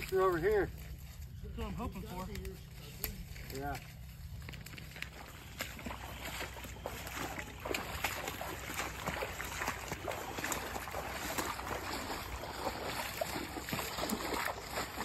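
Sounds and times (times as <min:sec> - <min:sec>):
dry grass rustling against clothing: 0:00.0 - 0:15.0.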